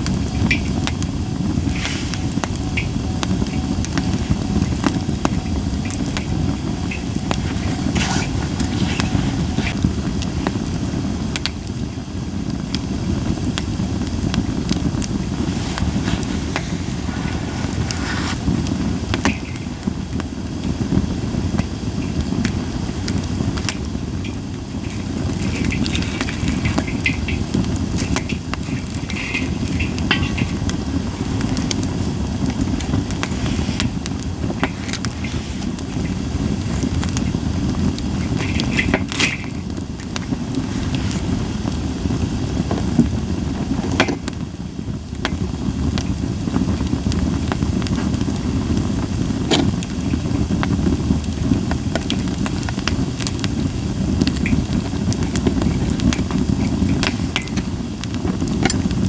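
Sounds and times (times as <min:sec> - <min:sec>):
campfire crackling and popping: 0:00.0 - 0:59.0
fire hissing: 0:00.0 - 0:59.0
low fire rumble: 0:00.0 - 0:59.0.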